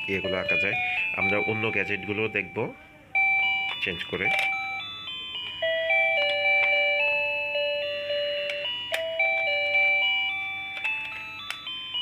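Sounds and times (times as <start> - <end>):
electronic chime melody: 0.0 - 12.0.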